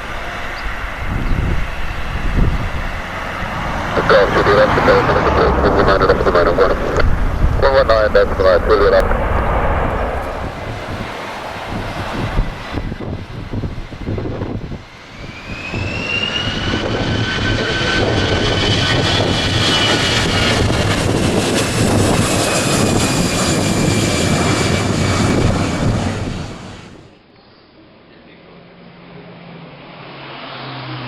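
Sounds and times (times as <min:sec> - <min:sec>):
jet engines roaring: 0:00.0 - 0:27.2.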